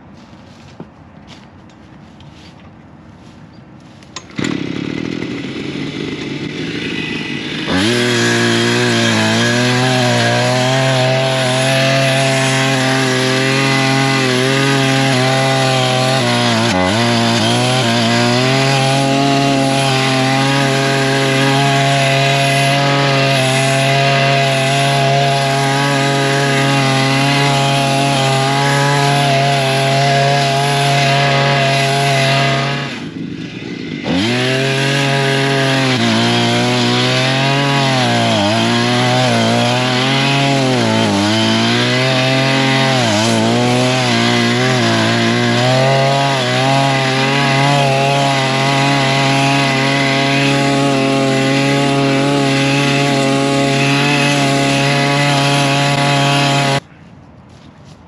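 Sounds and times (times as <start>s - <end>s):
chain cutting dry grass: 0.0s - 56.8s
small gasoline engine revving: 4.2s - 56.8s.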